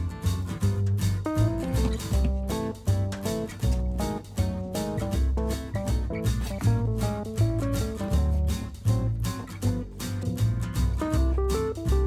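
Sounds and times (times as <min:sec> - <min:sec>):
acoustic guitar melody: 0:00.0 - 0:12.0
bass line with steady beat: 0:00.0 - 0:12.0.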